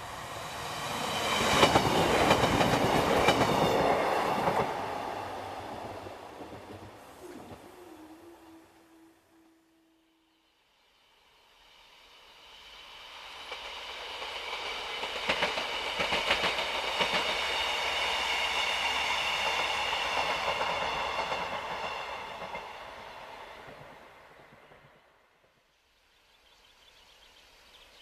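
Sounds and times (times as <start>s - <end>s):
diesel train passing: 0.0s - 25.5s.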